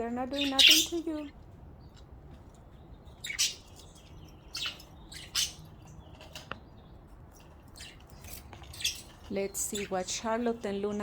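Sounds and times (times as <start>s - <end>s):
budgies chirping harshly: 0.0s - 11.0s.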